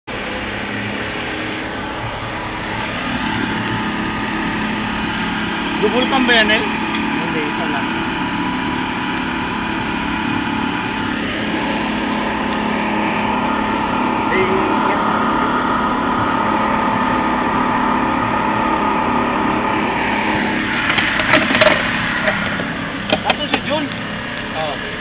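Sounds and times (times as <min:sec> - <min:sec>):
boat engine running: 0:00.0 - 0:25.0
water rushing: 0:00.1 - 0:24.8.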